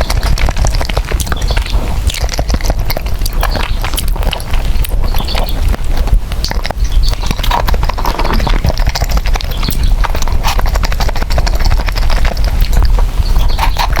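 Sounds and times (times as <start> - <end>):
chewing and slurping noodles: 0.0 - 14.0
wet mouth clicks: 0.0 - 14.0.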